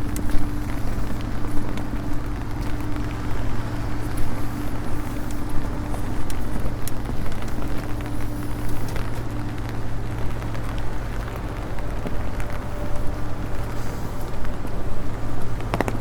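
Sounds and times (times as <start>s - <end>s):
light rain on an umbrella: 0.0s - 16.0s
steady low hum: 0.0s - 16.0s.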